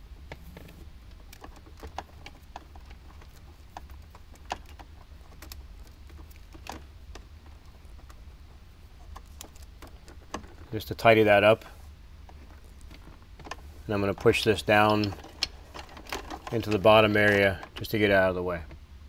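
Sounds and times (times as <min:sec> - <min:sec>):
steady low hum: 0:00.0 - 0:19.0
clicks and rustles of wires: 0:00.1 - 0:18.8.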